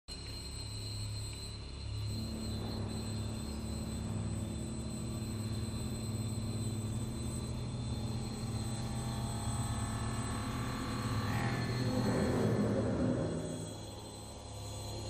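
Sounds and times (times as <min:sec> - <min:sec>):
high sustained tones: 0:01.6 - 0:15.0
low rumbling drone: 0:01.9 - 0:15.0.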